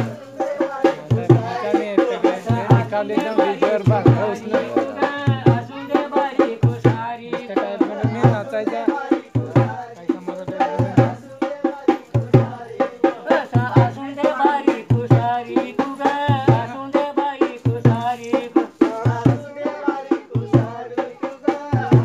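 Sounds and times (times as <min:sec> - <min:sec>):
deep drum beats: 0:00.0 - 0:22.0
voices singing: 0:00.0 - 0:22.0.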